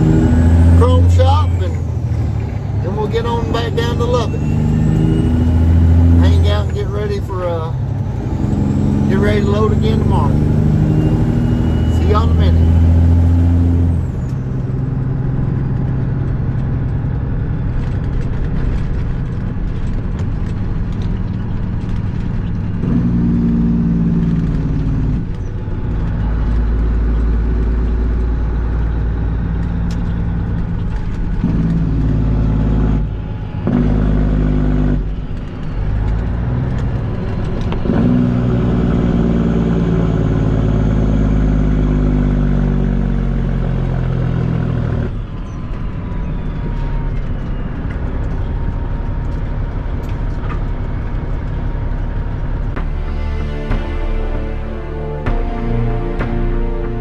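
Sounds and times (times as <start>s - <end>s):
diesel truck engine: 0.0s - 57.0s.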